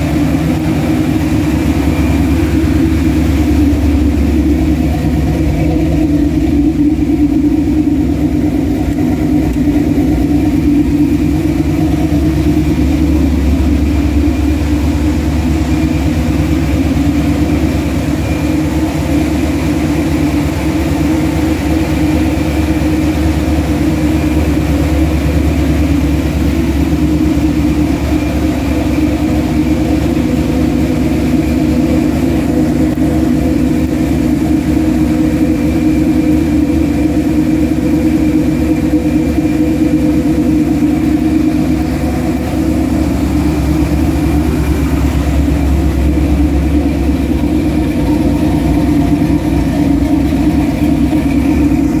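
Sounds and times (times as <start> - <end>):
pickup engine idling: 0.0 - 52.0.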